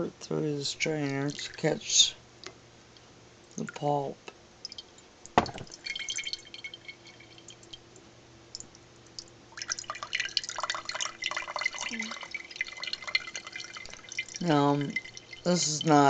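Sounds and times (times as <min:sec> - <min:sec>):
juice dripping into a cup: 0:00.7 - 0:02.6, 0:03.5 - 0:16.0.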